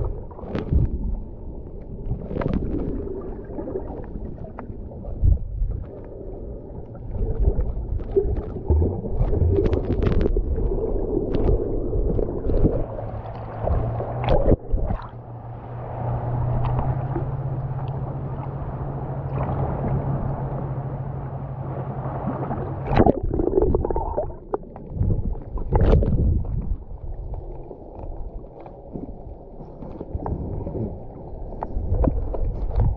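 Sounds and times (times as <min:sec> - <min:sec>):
steady low hum: 0:00.0 - 0:29.7
water sloshing and gurgling: 0:00.0 - 0:32.9
water splashes: 0:00.0 - 0:32.9.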